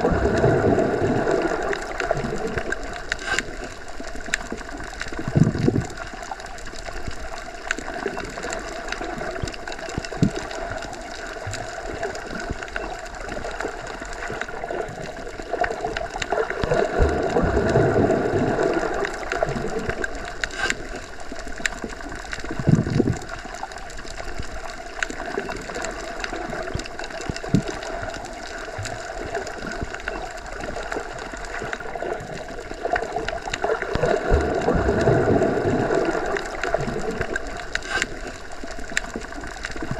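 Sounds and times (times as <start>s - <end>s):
faint underwater clicks: 0.0s - 39.9s
rush of moving water: 0.0s - 39.9s.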